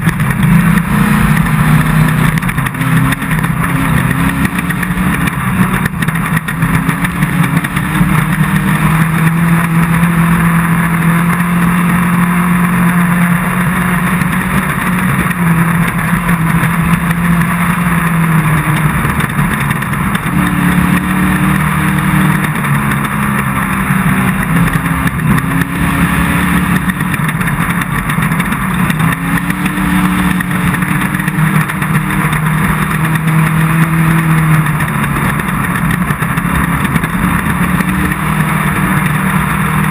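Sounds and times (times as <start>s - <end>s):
constant rushing noise: 0.0s - 39.9s
race car engine running hard: 0.0s - 39.9s.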